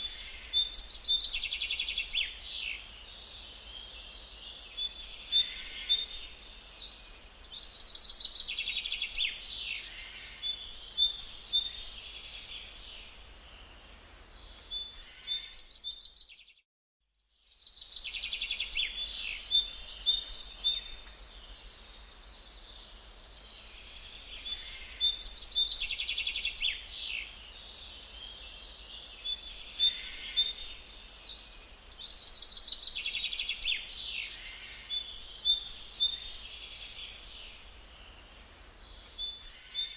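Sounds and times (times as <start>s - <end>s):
small birds chirping: 0.0s - 13.6s, 17.3s - 39.9s.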